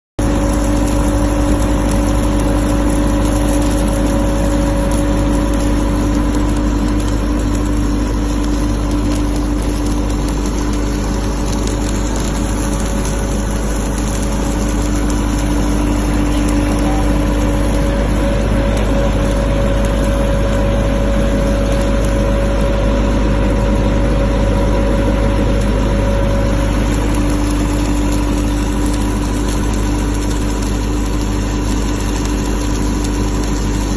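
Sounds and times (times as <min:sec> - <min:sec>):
welding generator engine hum: 0:00.2 - 0:33.9.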